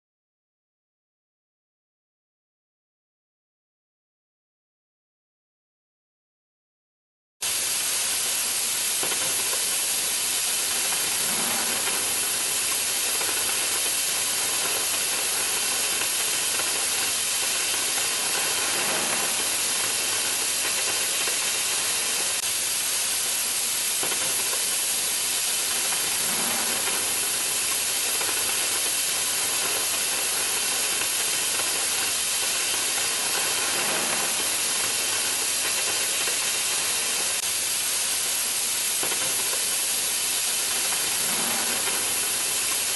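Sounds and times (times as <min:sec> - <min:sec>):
cutting torch hissing: 0:07.4 - 0:42.9.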